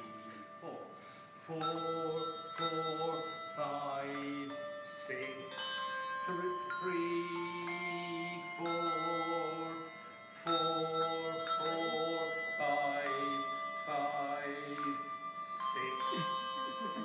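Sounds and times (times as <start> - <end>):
handbells ringing: 0.0 - 17.0.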